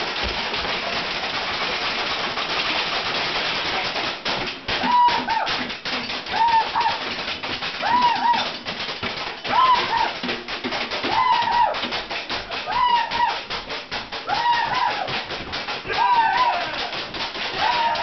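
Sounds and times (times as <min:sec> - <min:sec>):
fast tapping on kitchen objects: 0:00.0 - 0:18.0.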